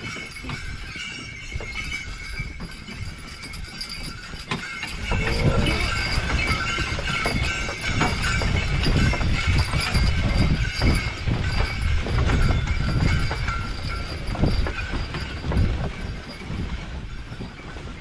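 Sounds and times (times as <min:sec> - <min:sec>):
low rumble of moving sleigh: 0:00.0 - 0:18.0
sleigh bells jingling: 0:00.0 - 0:18.0.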